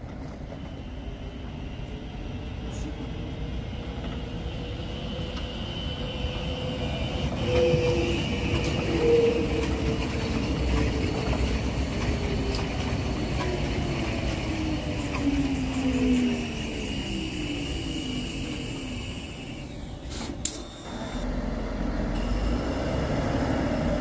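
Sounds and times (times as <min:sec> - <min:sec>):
tram motor whine: 0:00.0 - 0:24.0
tram wheels rumbling on rails: 0:00.0 - 0:24.0.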